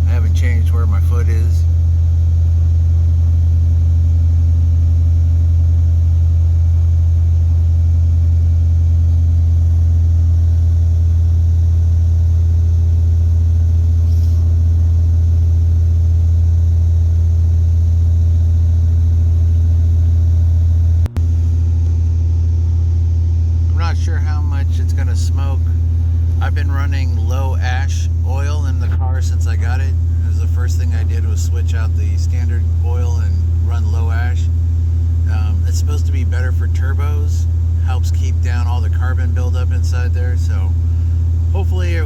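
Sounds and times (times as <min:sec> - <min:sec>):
car engine fast idle: 0:00.0 - 0:42.0.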